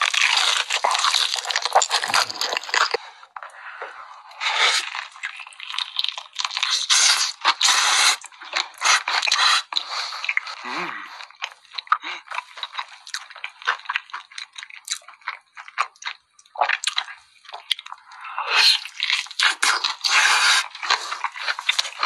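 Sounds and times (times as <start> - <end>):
wet squishing and smacking: 0.0 - 3.6, 4.3 - 22.0
crunching while chewing: 0.0 - 22.0.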